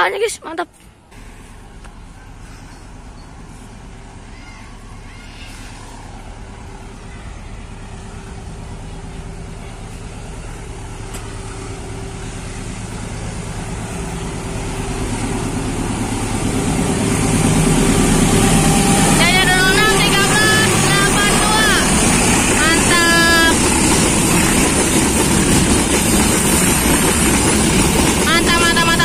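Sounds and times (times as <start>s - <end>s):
diesel locomotive engine drone: 0.0s - 29.0s.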